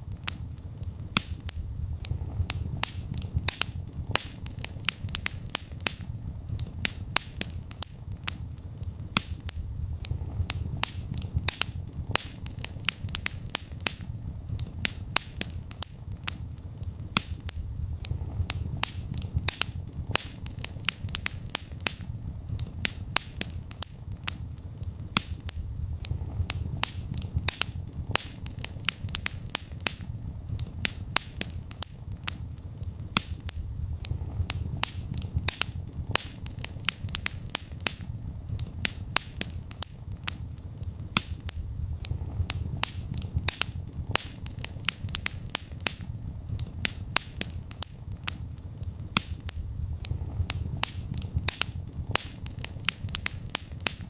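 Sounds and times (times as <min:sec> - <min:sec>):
fire crackling and popping: 0:00.0 - 0:54.0
low fire rumble: 0:00.0 - 0:54.0.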